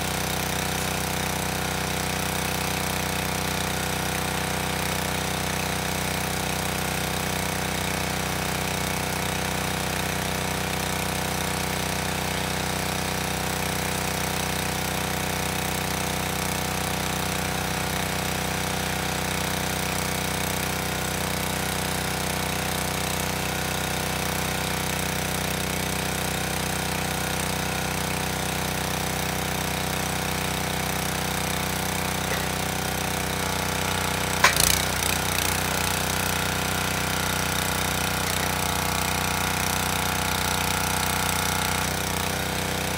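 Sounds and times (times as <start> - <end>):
small gasoline engine idling: 0.0 - 42.9.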